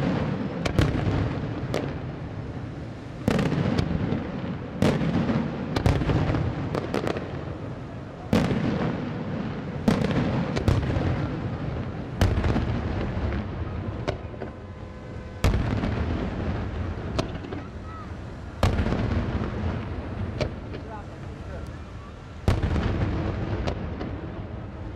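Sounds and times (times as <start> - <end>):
firework sharp cracks: 0.0 - 24.9
firework shells booming: 3.2 - 21.8, 22.4 - 24.8.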